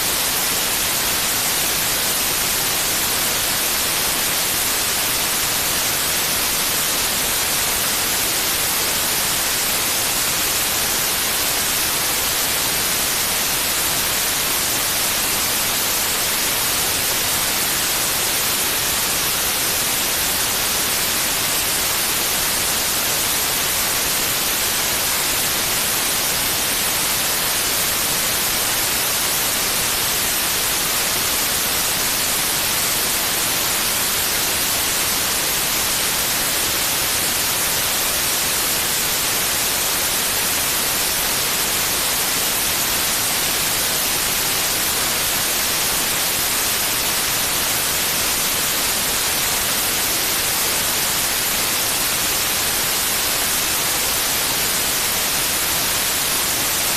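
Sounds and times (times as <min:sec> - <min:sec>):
steady white noise hiss: 0:00.0 - 0:56.9.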